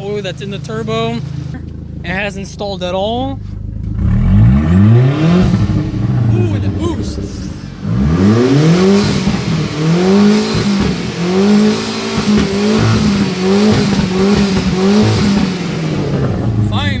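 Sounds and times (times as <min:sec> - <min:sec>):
turbocharged engine revving: 0:00.0 - 0:17.0.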